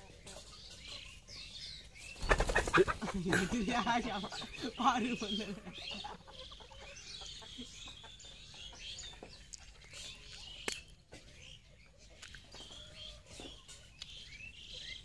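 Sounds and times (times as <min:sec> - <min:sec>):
chicken clucking: 0:00.0 - 0:15.0
high bird chirps: 0:00.0 - 0:15.0.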